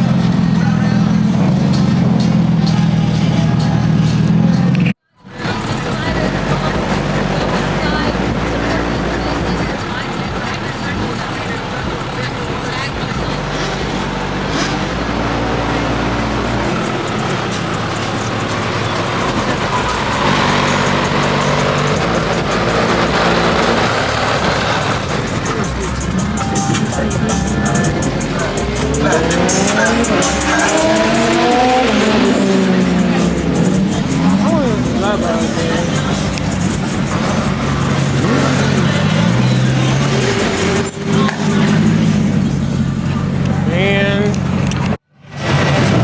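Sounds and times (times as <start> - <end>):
music playing: 0.0 - 44.8
car engine at high revs: 0.0 - 46.0.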